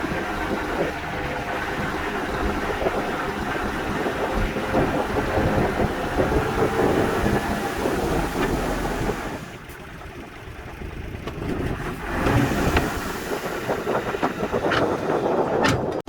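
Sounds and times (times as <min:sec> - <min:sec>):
diesel engine under load: 0:00.0 - 0:16.0
machinery rumble and clatter: 0:00.0 - 0:16.0.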